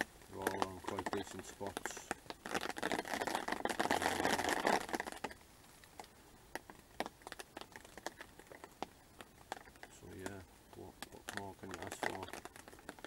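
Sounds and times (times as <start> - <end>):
close crinkling and rustling: 0.0 - 13.0
faint clicks and ticks: 0.0 - 13.0.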